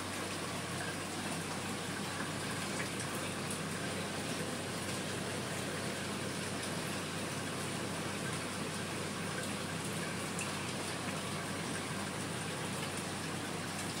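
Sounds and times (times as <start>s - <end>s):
low electrical hum: 0.0s - 14.0s
water rushing in filter: 0.0s - 14.0s.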